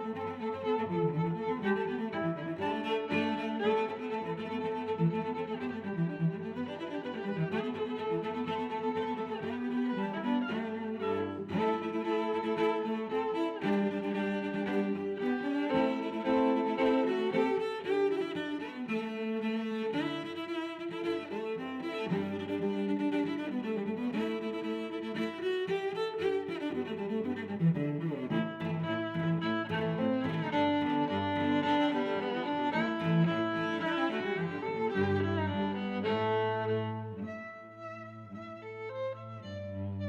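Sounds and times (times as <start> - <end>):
cello and fiddle tune: 0.0 - 40.0.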